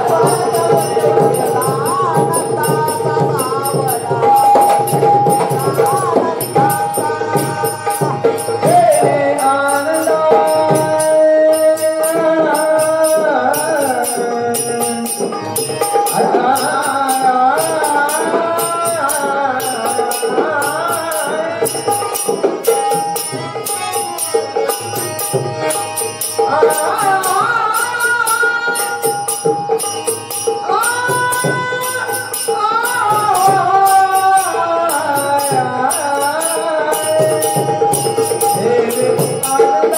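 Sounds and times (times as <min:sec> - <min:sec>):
person singing: 0:00.0 - 0:29.8, 0:30.5 - 0:39.9
hand cymbals striking: 0:00.0 - 0:39.9
percussion: 0:00.0 - 0:39.9.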